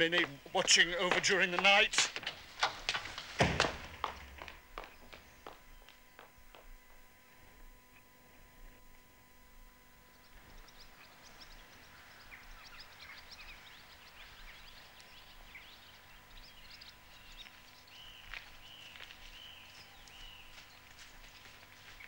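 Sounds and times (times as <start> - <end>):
small birds chirping: 0.0 - 2.9, 4.1 - 6.7, 9.6 - 22.0.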